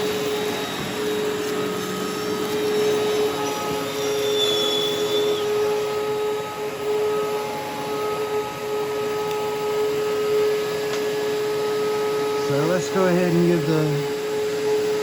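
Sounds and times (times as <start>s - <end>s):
high whine: 0.0s - 15.0s
vacuum cleaner motor running: 0.0s - 15.0s.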